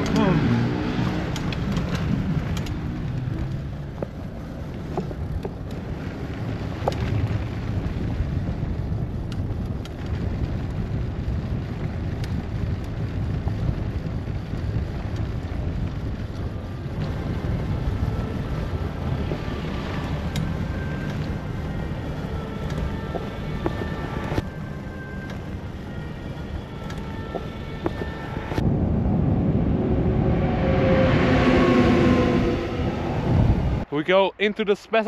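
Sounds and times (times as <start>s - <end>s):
tyres rumbling over cobblestones: 0.0s - 34.9s.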